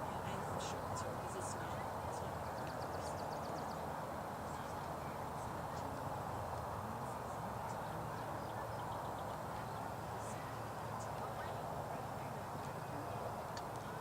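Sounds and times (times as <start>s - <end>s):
outdoor background noise: 0.0s - 14.0s
small birds chirping: 0.2s - 14.0s.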